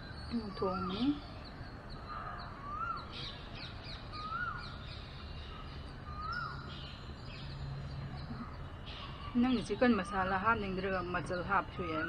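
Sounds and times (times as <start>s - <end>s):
bird call rising and falling: 0.0s - 9.8s.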